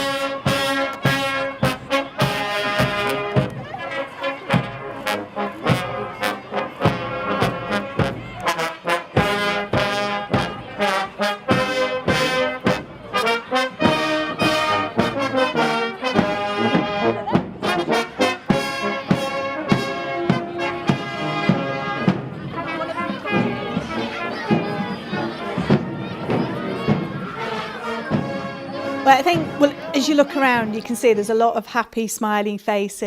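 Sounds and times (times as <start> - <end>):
brass band playing: 0.0 - 31.1.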